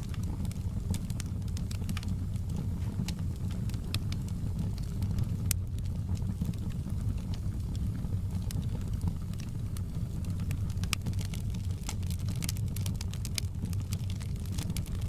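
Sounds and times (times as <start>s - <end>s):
low rumble of burning fire: 0.0s - 15.0s
wood fire crackling: 0.0s - 15.0s.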